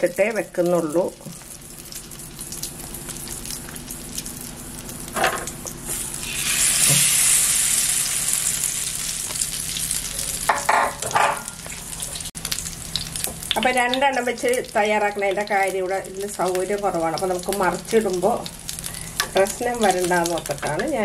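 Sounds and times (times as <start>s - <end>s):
bread frying in a pan: 0.0s - 21.0s.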